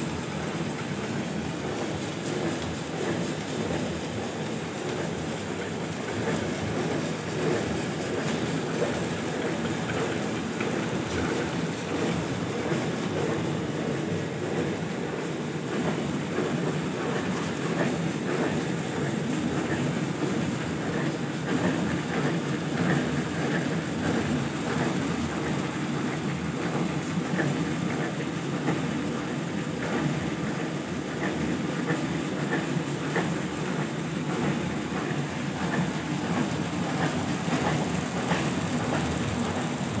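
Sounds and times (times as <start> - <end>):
lamination machine running: 0.0 - 40.0
light mechanical clatter: 0.0 - 40.0.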